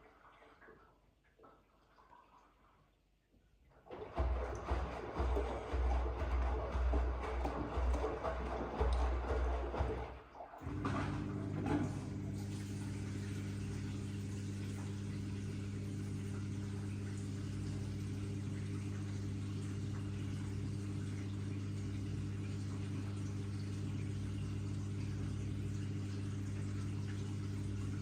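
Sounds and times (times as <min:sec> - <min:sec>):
washing machine humming: 0:03.8 - 0:28.0.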